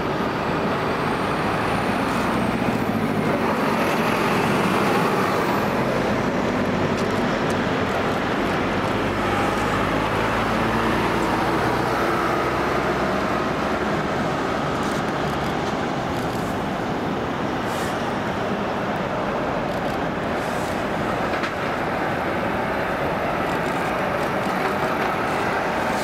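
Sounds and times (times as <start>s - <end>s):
diesel truck engines: 0.0s - 26.0s
tyre noise on road: 0.0s - 26.0s.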